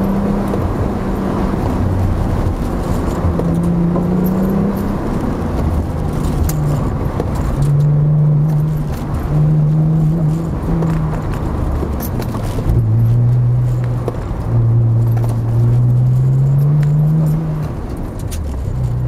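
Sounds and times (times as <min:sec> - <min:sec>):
car engine accelerating: 0:00.0 - 0:19.0
car interior rattles and clicks: 0:00.0 - 0:19.0.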